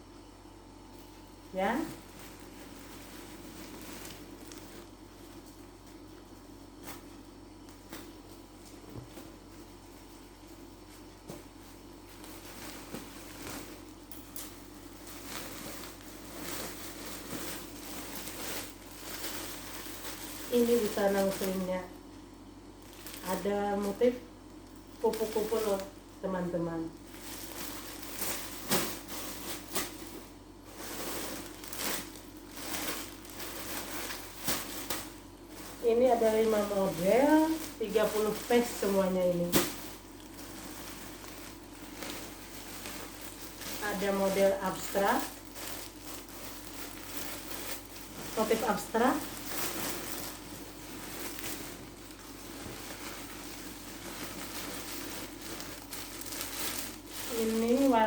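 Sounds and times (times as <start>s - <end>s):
steady low hum: 0.0s - 58.0s
clothing packaging rustling: 0.9s - 58.0s.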